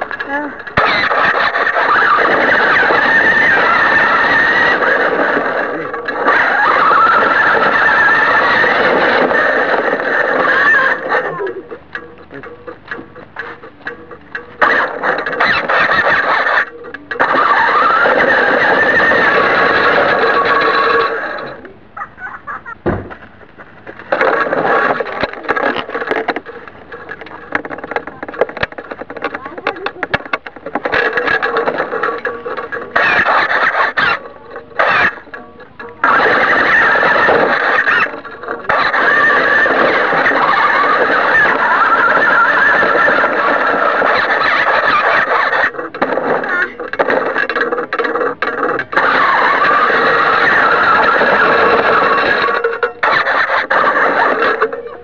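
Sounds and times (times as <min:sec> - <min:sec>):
rc car motor running: 0:00.0 - 0:21.6, 0:24.1 - 0:55.0
chassis knocking and clattering: 0:00.0 - 0:55.0
tyres scraping over rough ground: 0:00.0 - 0:55.0.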